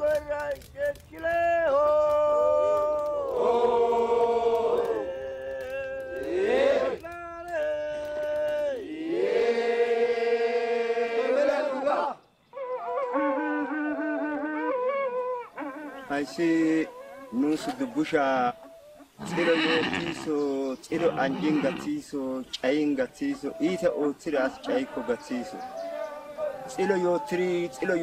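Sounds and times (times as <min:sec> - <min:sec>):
men chanting: 0:00.0 - 0:12.2, 0:16.0 - 0:28.0.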